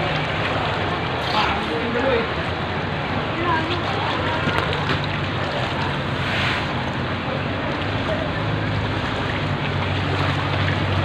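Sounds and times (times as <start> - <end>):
floodwater sloshing and splashing: 0.0 - 11.0.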